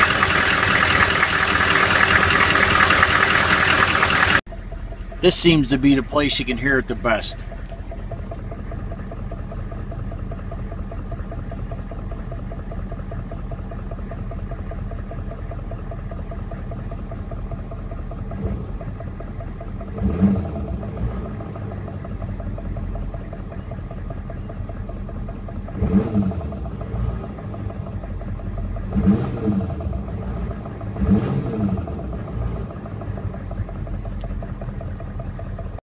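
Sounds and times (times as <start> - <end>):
diesel engine idling and revving: 0.0 - 35.8
engine knocking: 0.0 - 35.8.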